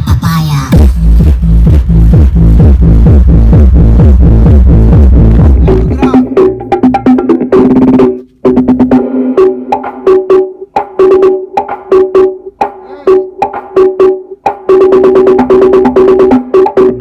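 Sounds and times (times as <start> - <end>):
loud dance music in car: 0.0 - 17.0.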